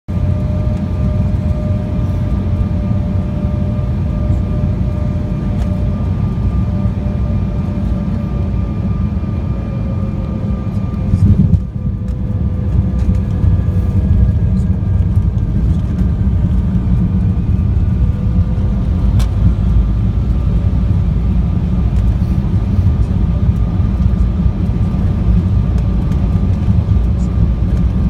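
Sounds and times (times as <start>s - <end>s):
airliner cabin rumble: 0.1s - 28.0s
jet engine whine: 0.1s - 28.0s.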